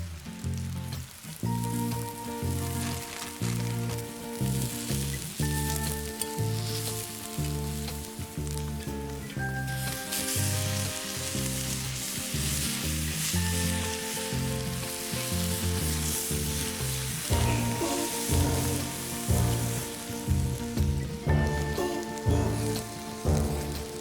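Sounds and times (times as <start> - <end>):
background music with bass: 0.0 - 24.0
food sizzling in frying pan: 0.0 - 24.0.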